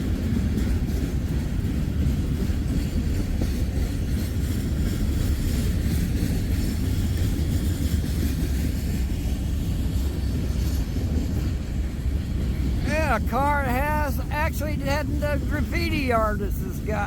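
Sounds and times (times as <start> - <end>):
freight train cars rumbling past: 0.0 - 17.0.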